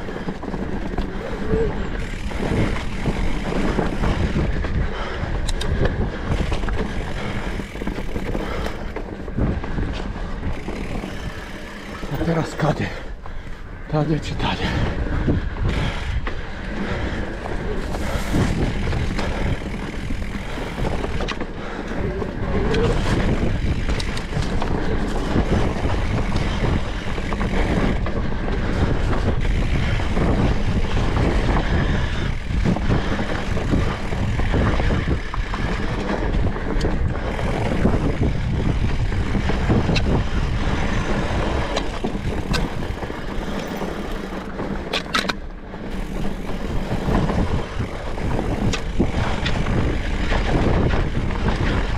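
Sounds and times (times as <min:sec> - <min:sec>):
bike rattling and knocking: 0:00.0 - 0:51.9
tyre and wind noise: 0:00.0 - 0:51.9.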